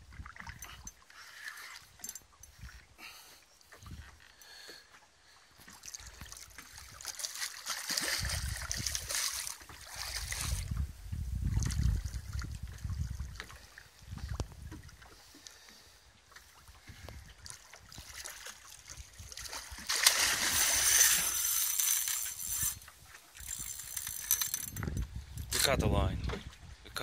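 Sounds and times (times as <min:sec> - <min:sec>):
water sloshing and splashing: 0:00.0 - 0:03.0, 0:03.6 - 0:25.0.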